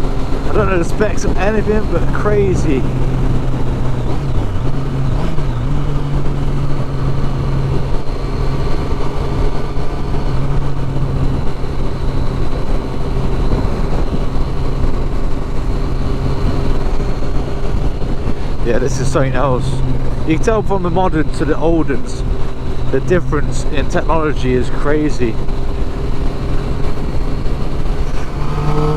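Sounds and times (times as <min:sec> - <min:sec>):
motorcycle engine cruising: 0:00.0 - 0:28.9.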